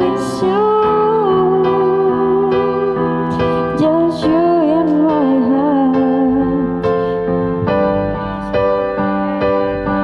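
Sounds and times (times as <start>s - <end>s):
electric piano chords: 0.0s - 10.0s.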